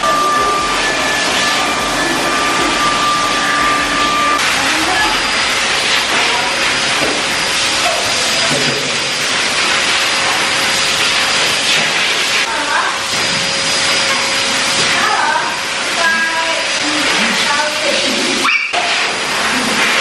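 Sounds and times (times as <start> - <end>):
thin whine: 0.0 - 16.5
dog grooming blower running: 0.0 - 20.0.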